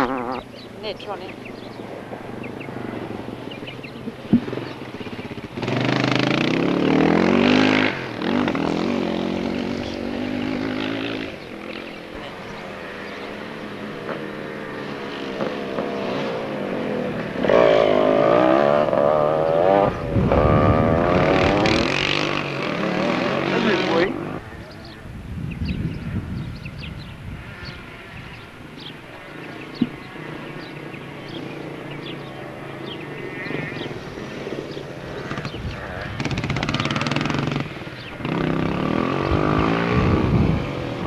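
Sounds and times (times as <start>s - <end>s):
engine revving: 0.0s - 24.7s, 27.5s - 41.0s.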